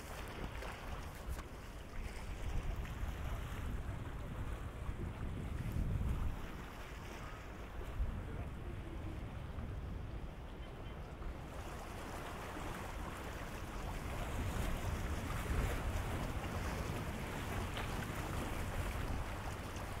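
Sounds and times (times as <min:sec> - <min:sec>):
sea water washing: 0:00.0 - 0:09.3, 0:11.0 - 0:20.0
wind rumbling on microphone: 0:00.0 - 0:20.0.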